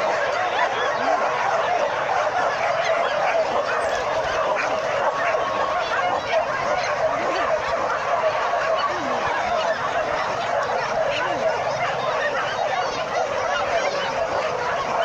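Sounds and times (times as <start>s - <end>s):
dogs yelping and barking: 0.0s - 15.0s.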